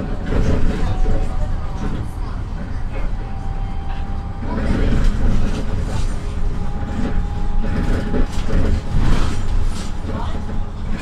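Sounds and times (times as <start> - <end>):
bus body rattling: 0.0 - 11.0
bus engine and road rumble: 0.0 - 11.0.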